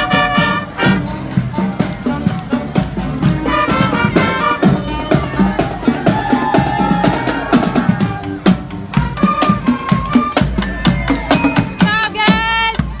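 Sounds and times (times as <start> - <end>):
held wind instrument notes: 0.0 - 12.9
band playing: 0.0 - 13.0
steady drum beat: 0.0 - 13.0.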